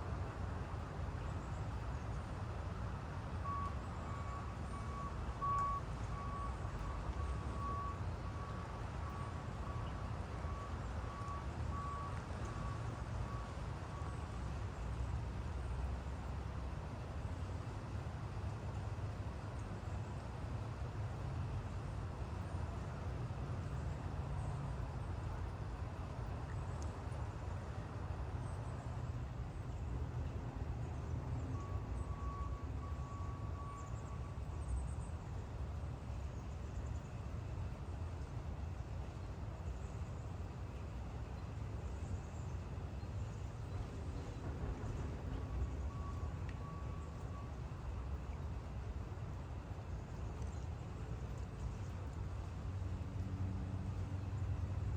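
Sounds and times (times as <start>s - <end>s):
faint steady tone: 0.0s - 54.9s
low steady rumble: 0.0s - 54.9s
steady rain falling: 0.1s - 53.3s.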